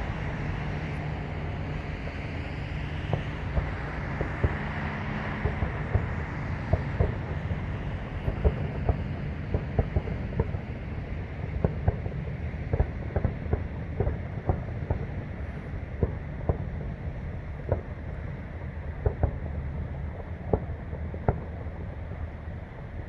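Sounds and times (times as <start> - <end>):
traffic rumble: 0.0 - 23.0
fireworks popping and banging: 3.0 - 22.8.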